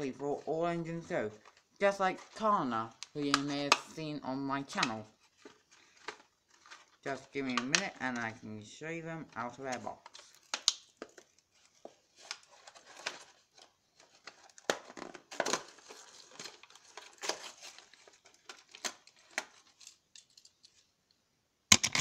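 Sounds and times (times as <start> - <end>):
packaging crinkling and rustling: 0.0 - 20.9.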